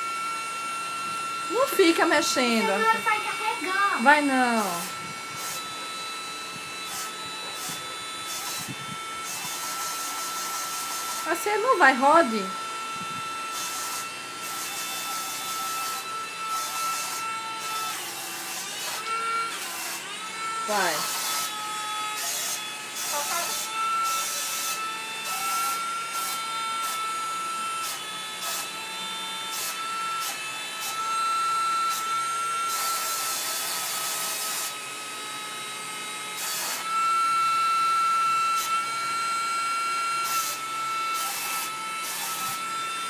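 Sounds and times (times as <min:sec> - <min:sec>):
toy motor high whine: 0:00.0 - 0:43.0.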